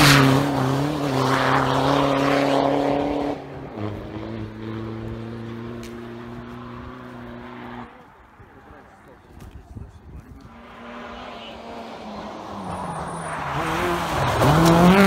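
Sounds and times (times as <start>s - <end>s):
rally car engine at high revs: 0.0s - 8.0s, 10.4s - 15.0s.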